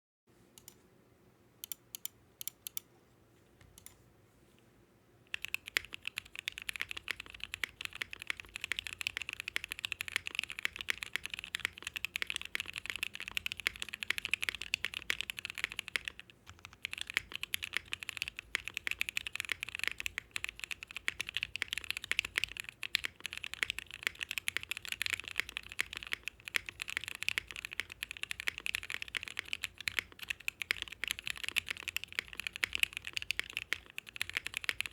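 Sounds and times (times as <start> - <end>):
mechanical keyboard typing: 1.6 - 2.8, 5.3 - 34.9.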